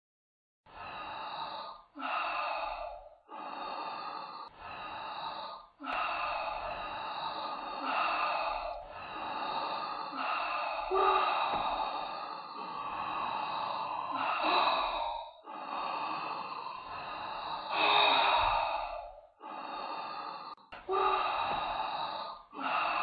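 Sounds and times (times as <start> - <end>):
hissing breathing through a mask: 0.7 - 23.0.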